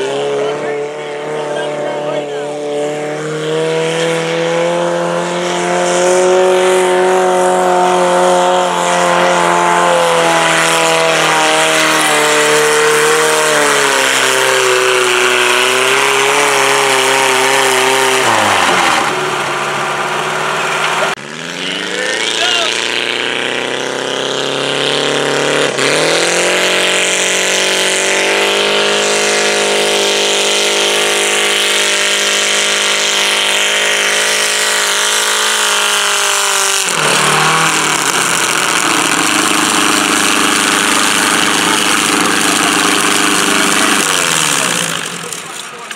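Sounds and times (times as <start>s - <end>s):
garden tractor engine revving: 0.0s - 45.9s.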